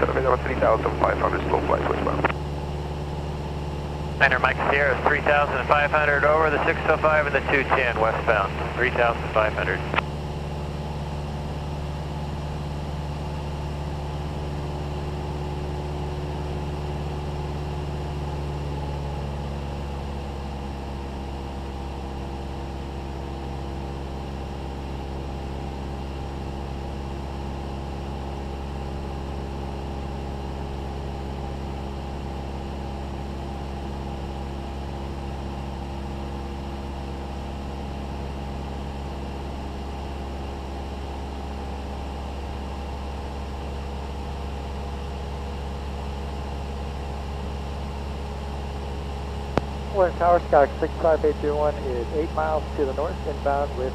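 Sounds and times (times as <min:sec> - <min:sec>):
airplane engine drone in cabin: 0:00.0 - 0:53.9.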